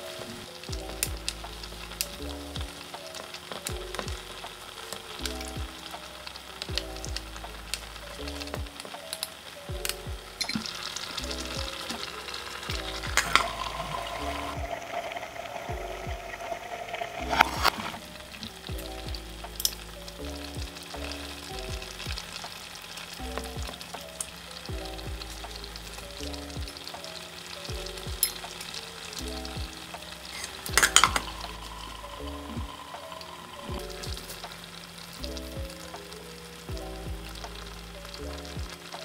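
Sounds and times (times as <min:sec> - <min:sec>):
background music with bass: 0:00.0 - 0:39.0
stew bubbling and sizzling: 0:00.0 - 0:39.0.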